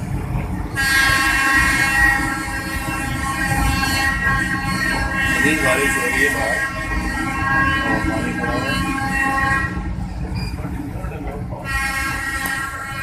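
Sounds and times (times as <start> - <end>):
train rumbling on rails: 0.0 - 13.0
train horn blasts: 0.7 - 10.1, 11.6 - 13.0.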